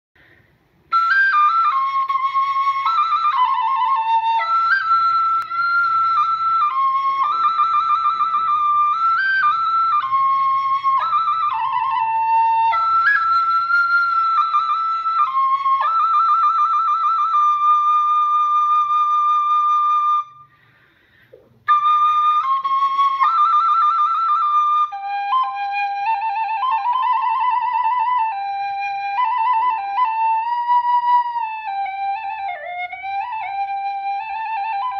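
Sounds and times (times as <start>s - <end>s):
bamboo flute slow melody: 0.8s - 34.9s.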